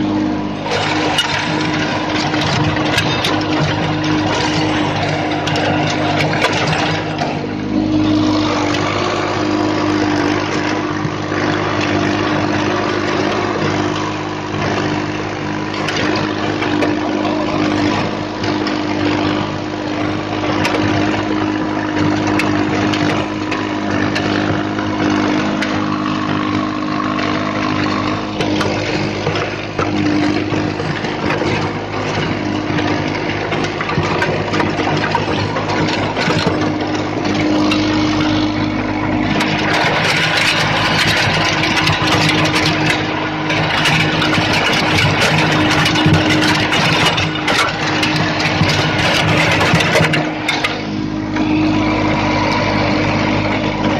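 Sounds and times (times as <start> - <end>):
rotavator tilling soil: 0.0 - 53.9
tractor diesel engine under load: 0.0 - 53.9.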